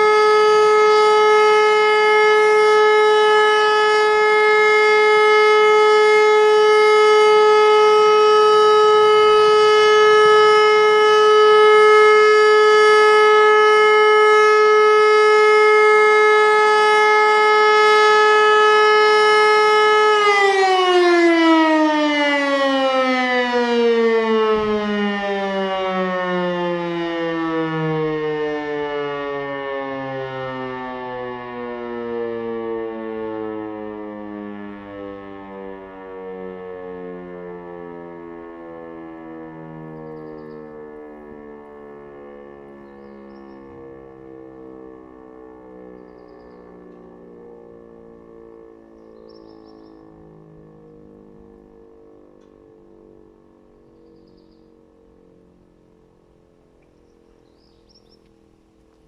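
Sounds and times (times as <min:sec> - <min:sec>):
siren steady tone winding down: 0:00.0 - 0:59.0.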